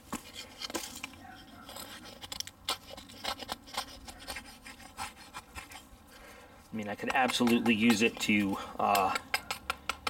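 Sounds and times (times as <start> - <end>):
hatchet shaving dry wood: 0.1 - 10.0.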